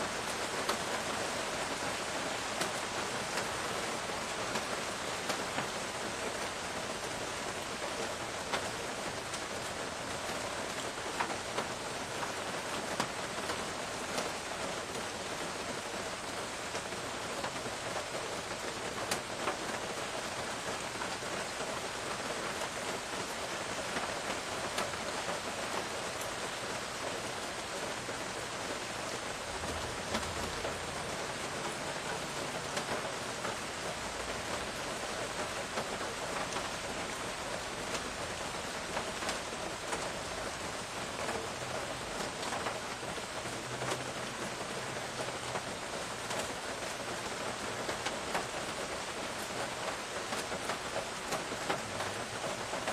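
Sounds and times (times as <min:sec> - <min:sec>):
raindrops striking close by: 0:00.0 - 0:52.9
steady rain falling: 0:00.0 - 0:52.9.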